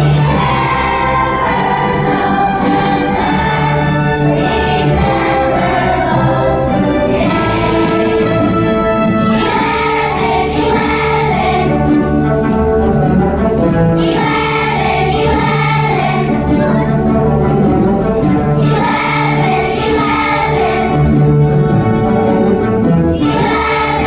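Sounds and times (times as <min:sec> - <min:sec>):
children's choir singing: 0:00.0 - 0:24.0
instrumental accompaniment: 0:00.0 - 0:24.0.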